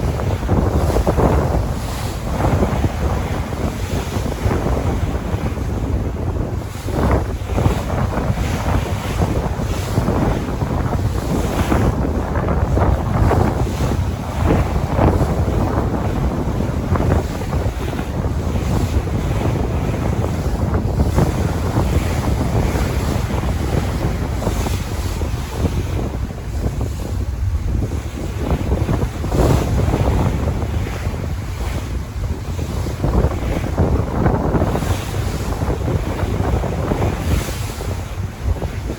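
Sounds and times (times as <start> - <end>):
sea waves breaking: 0.0 - 38.9
wind buffeting microphone: 0.0 - 38.9.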